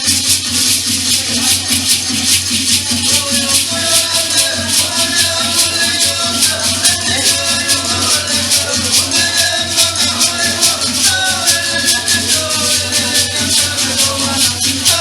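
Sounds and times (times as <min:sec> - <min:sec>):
shaken percussion beat: 0:00.0 - 0:15.0.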